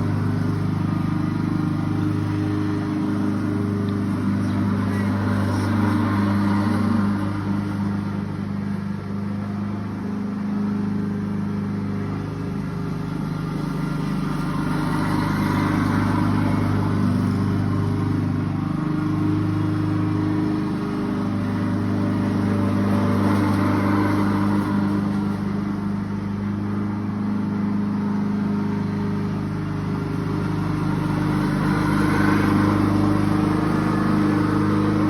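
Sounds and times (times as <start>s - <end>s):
lawnmower engine running: 0.0s - 35.0s.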